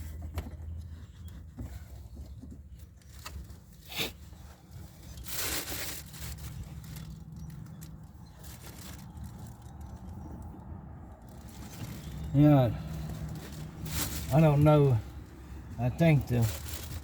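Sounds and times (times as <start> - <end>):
scraping rustle: 0.0 - 10.1, 11.2 - 15.1, 16.0 - 17.0.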